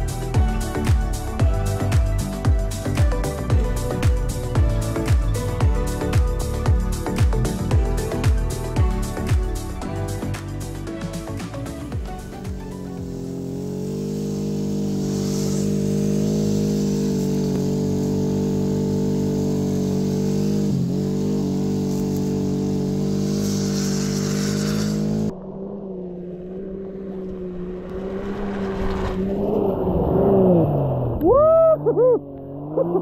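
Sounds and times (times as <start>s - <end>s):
off-road vehicle engine high revs: 0.0s - 25.3s, 26.0s - 33.0s.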